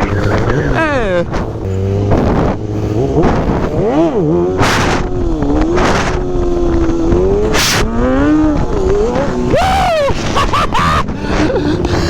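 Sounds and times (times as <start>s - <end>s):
motorcycle engine revving: 0.0s - 12.0s
wind noise on microphone: 0.0s - 12.0s.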